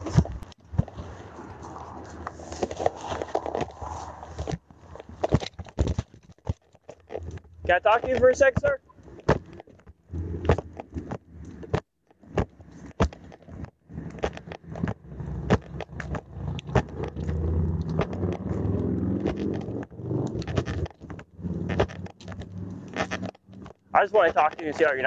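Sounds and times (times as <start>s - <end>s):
clothing rubbing on microphone: 0.0s - 25.0s.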